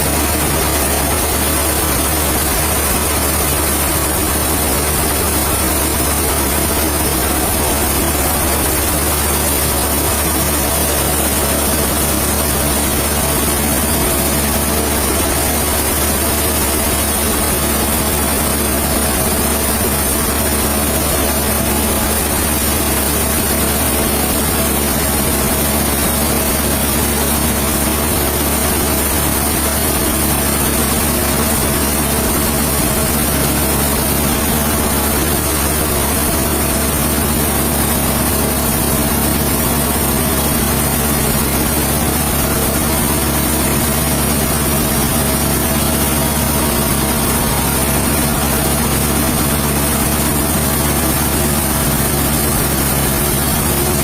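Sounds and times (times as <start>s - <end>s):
heavy engine running steadily: 0.0s - 54.0s.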